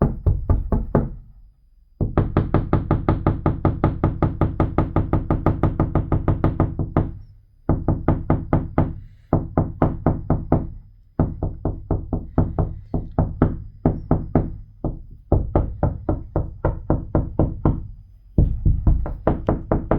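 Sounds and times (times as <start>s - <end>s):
rapid knocking on window glass: 0.0s - 1.3s, 2.0s - 19.9s.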